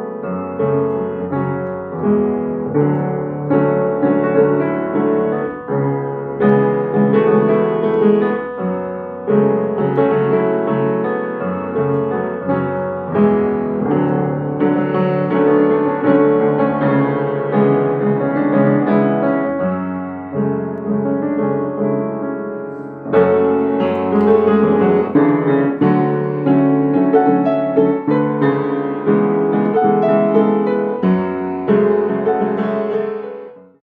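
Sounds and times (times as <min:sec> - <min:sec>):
slow piano chords: 0:00.0 - 0:33.8.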